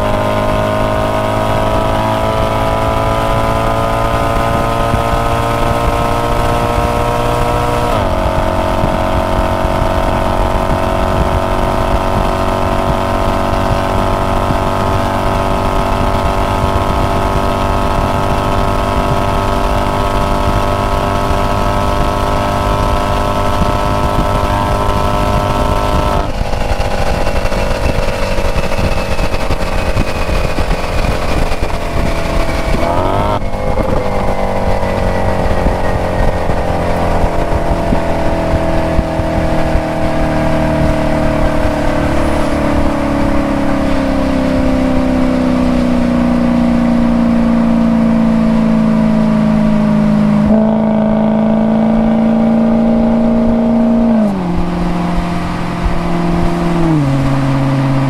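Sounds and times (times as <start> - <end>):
car engine and exhaust at speed: 0.0 - 58.0.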